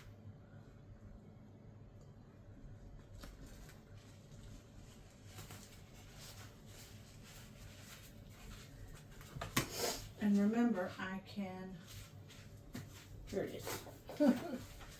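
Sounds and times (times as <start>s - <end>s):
faint low hum: 0.0s - 14.9s
rustling and handling noises: 2.6s - 14.9s.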